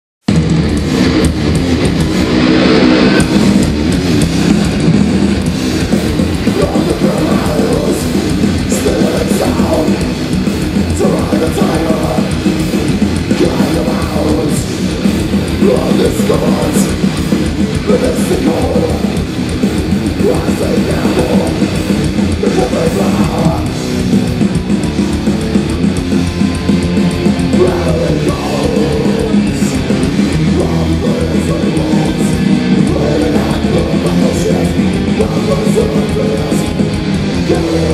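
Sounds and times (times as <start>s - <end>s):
metal band playing live: 0.2s - 37.9s.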